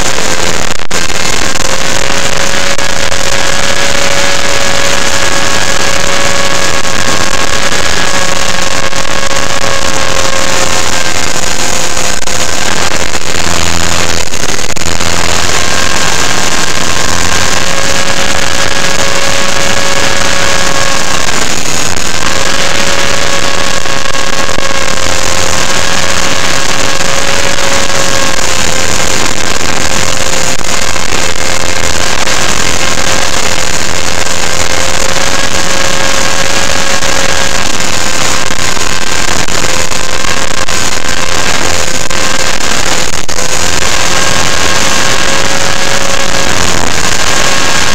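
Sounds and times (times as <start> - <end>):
rc helicopter motor whine: 0.0 - 47.9.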